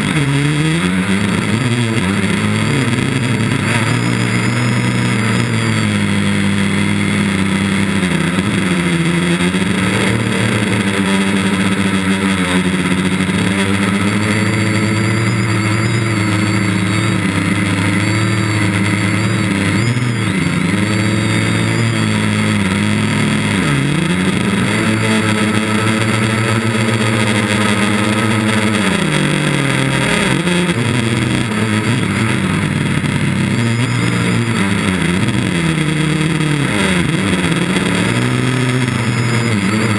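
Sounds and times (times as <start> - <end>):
quadcopter motors and propellers droning: 0.0 - 39.9.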